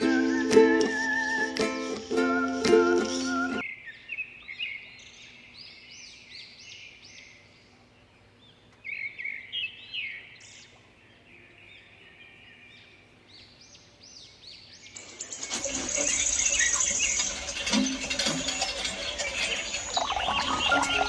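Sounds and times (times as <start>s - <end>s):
birds chirping: 3.1s - 21.0s.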